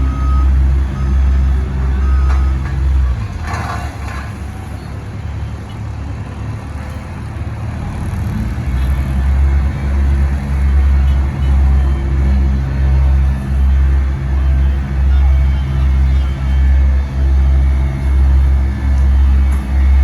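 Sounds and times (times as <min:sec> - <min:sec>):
heavy machinery diesel engines droning: 0:00.0 - 0:20.0.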